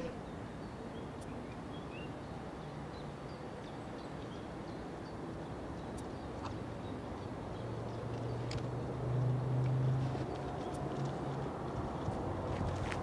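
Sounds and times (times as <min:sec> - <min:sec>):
open-air background noise: 0:00.0 - 0:13.0.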